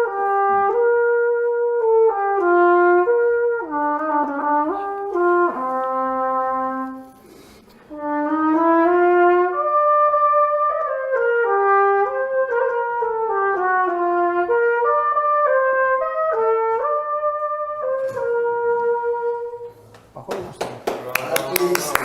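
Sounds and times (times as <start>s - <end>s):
solo trumpet melody: 0.0s - 19.8s.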